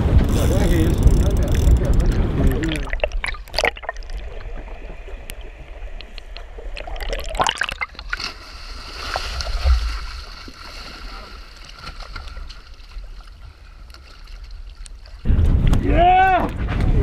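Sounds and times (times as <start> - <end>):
sea water splashing: 0.0 - 15.3.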